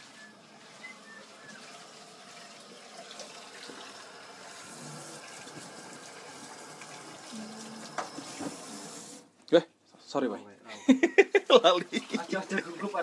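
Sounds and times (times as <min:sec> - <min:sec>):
water running from tap: 0:00.0 - 0:09.3, 0:11.5 - 0:13.0.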